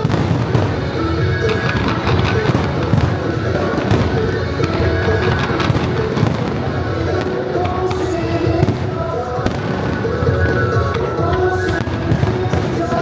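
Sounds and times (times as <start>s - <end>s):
fireworks bangs: 0.0s - 13.0s
music with long held notes: 0.0s - 13.0s.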